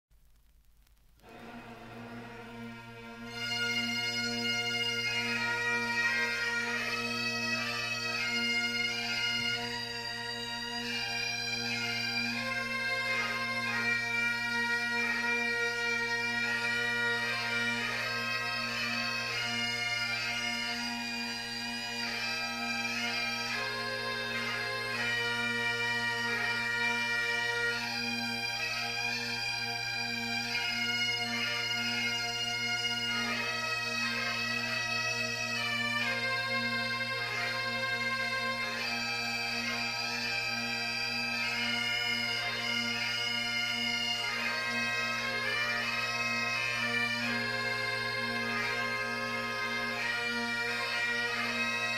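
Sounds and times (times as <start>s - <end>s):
bagpipe chanter melody: 1.2s - 51.9s
bagpipe drone: 1.2s - 51.9s.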